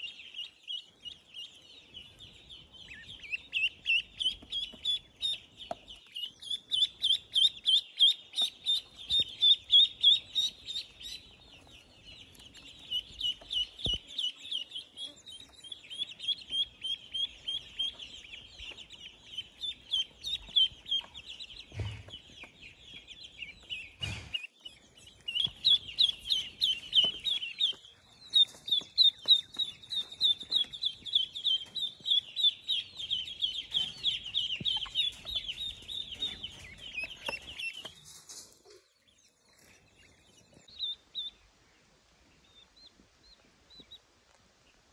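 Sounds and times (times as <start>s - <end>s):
chick peeping: 0.0s - 44.7s.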